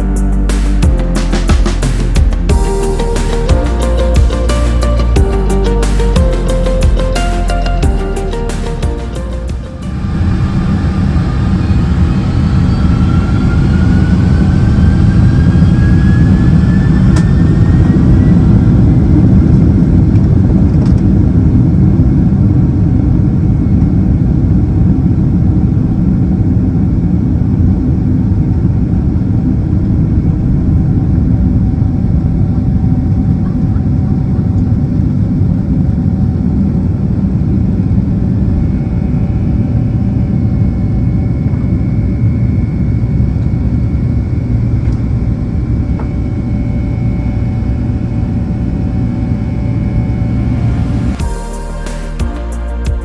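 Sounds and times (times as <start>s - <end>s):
jet engine whine rising: 0.0s - 52.9s
loud low rumble: 0.0s - 53.0s.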